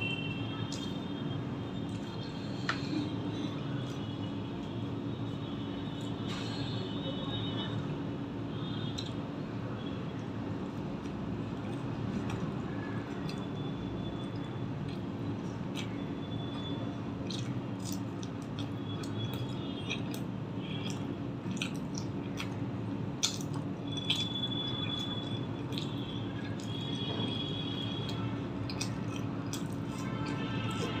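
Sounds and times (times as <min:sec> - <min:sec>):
chewing and wet mouth sounds: 0:00.0 - 0:31.0
steady low hum: 0:00.0 - 0:31.0.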